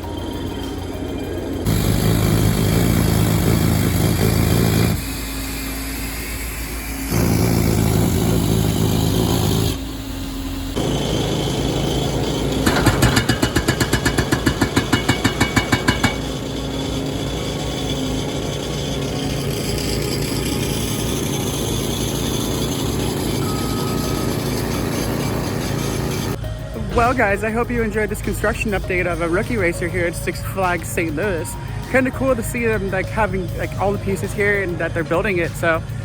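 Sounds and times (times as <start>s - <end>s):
rapid pulsing: 0.0s - 31.3s
drilling rig engine revving: 0.0s - 36.0s.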